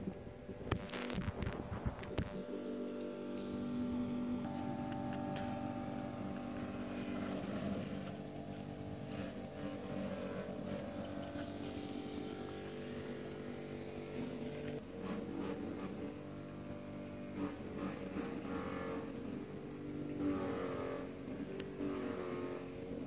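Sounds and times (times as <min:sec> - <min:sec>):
motorcycle engine idling: 0:01.8 - 0:23.0.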